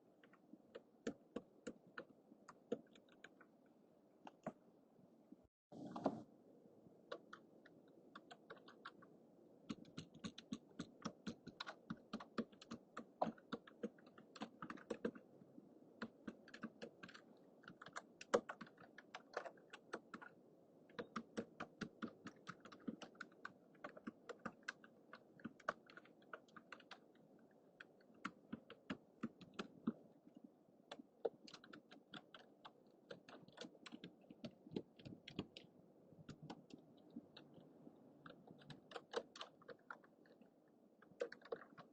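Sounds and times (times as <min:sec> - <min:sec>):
keyboard typing: 0:00.2 - 0:03.5, 0:07.1 - 0:09.1, 0:09.7 - 0:15.3, 0:16.0 - 0:30.0, 0:30.9 - 0:41.9.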